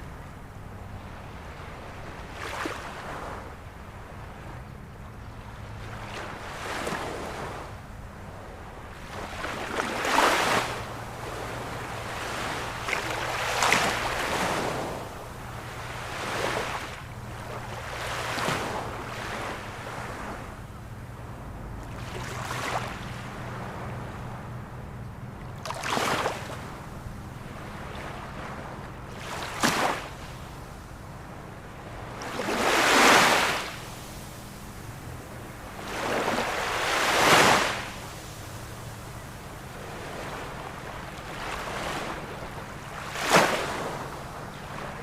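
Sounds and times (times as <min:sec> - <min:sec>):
ocean waves breaking: 0:00.0 - 0:04.8, 0:05.4 - 0:45.0.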